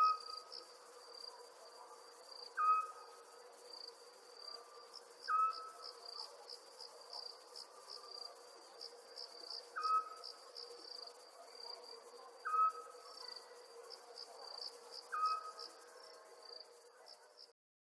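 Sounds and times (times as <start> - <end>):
crickets chirping: 0.0 - 17.5.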